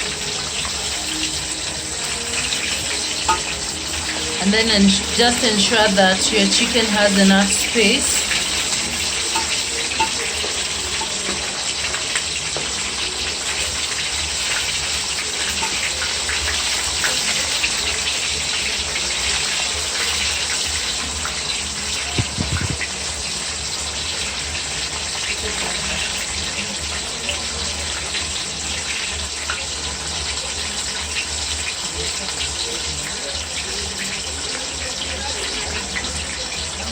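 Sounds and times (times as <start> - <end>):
chicken deep-frying in oil: 0.0 - 36.9.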